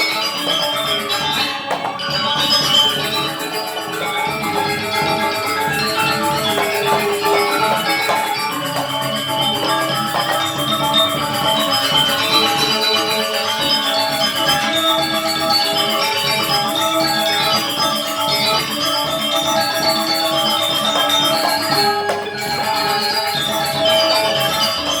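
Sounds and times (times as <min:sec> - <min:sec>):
gamelan metallophones and gongs: 0:00.0 - 0:25.0.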